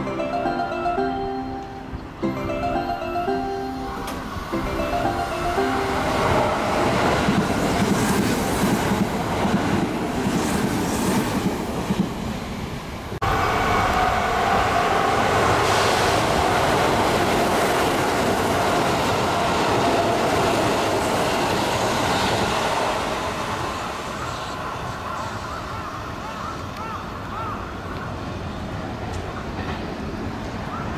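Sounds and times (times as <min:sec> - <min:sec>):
electric trains passing: 0:00.0 - 0:30.9.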